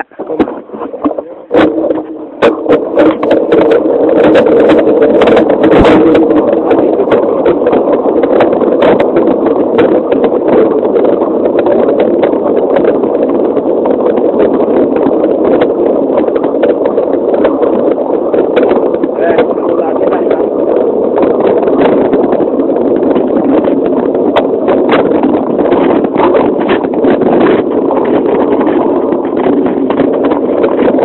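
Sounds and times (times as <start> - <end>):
wind and tyre noise rushing: 0.0 - 31.0.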